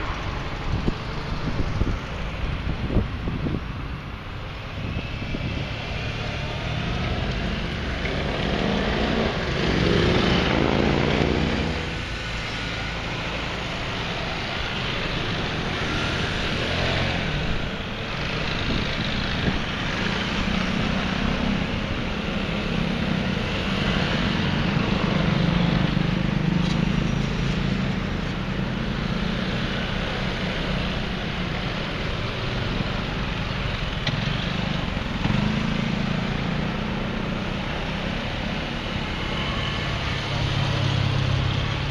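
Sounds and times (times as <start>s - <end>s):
motorcycles riding past: 4.8s - 41.9s.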